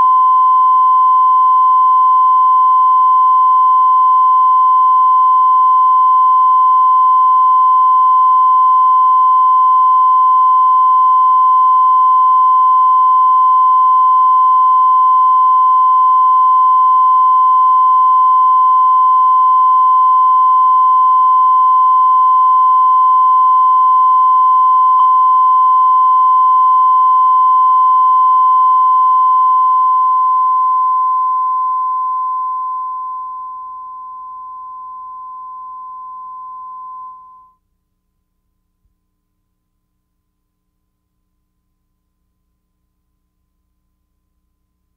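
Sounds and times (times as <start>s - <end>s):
steady test tone beep: 0.0s - 37.6s.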